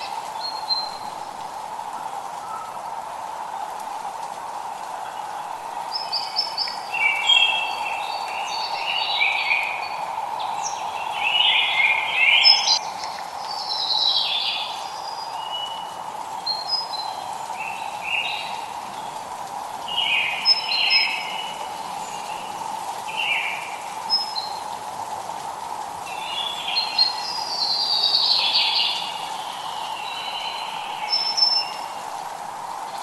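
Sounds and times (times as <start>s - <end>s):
light rain hissing: 0.0s - 33.0s
songbirds chirping and warbling: 0.0s - 33.0s.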